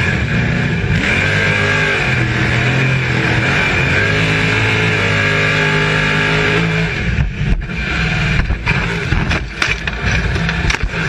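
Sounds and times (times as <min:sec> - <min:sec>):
race car engine running hard: 0:00.0 - 0:11.0.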